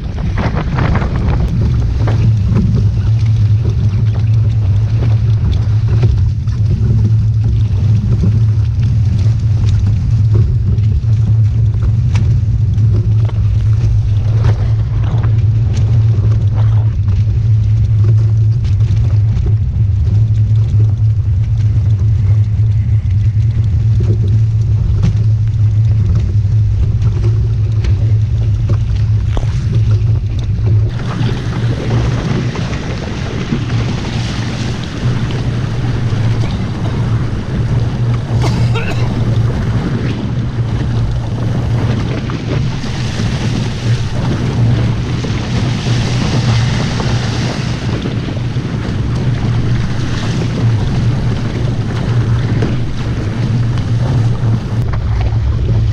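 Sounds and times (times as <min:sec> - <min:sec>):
water splashing against hulls: 0:00.0 - 0:55.9
wind buffeting microphone: 0:00.0 - 0:55.9.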